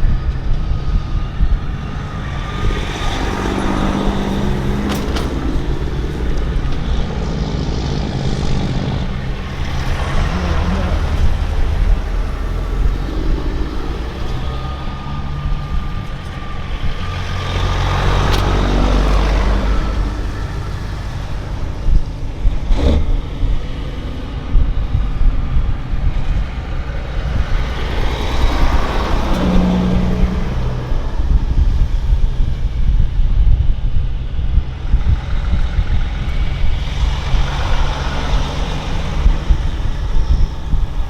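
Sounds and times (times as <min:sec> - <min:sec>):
heavy vehicle engines rumbling: 0:00.0 - 0:41.0
vehicles passing close by: 0:00.0 - 0:41.0.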